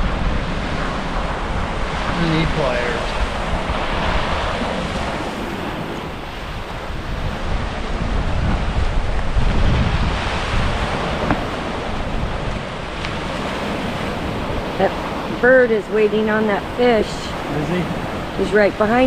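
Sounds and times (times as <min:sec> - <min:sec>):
surf: 0:00.0 - 0:19.0
wind buffeting microphone: 0:00.0 - 0:19.0.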